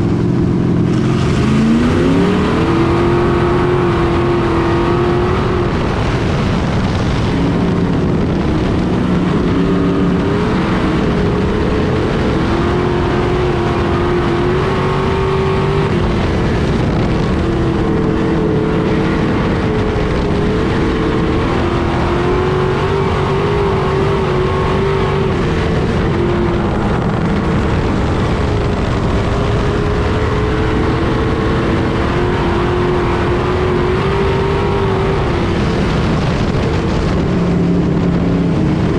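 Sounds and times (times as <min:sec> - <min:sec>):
race car engines at high revs: 0:00.0 - 0:38.9.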